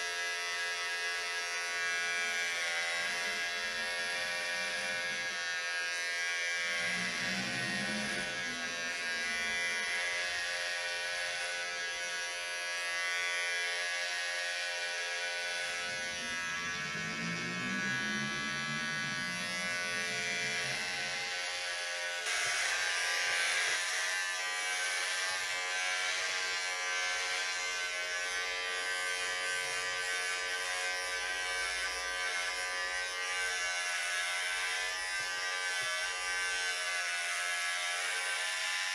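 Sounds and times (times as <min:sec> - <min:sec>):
electric hair clippers buzzing: 0:00.0 - 0:38.9.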